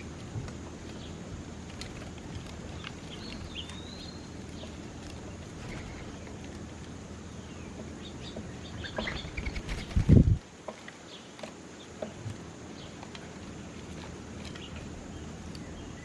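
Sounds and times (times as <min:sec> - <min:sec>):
steady low rumble: 0:00.0 - 0:10.4, 0:13.5 - 0:16.0
small birds chirping: 0:00.6 - 0:10.3, 0:11.0 - 0:16.0.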